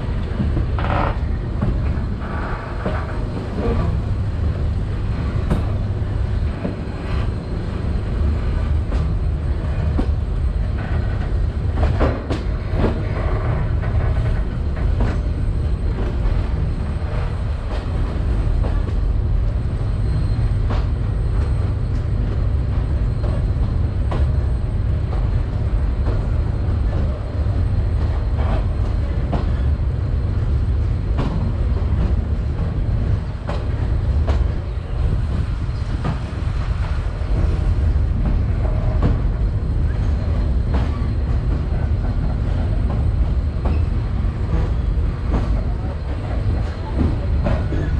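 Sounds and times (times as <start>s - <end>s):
train rumbling on rails: 0.0s - 47.9s.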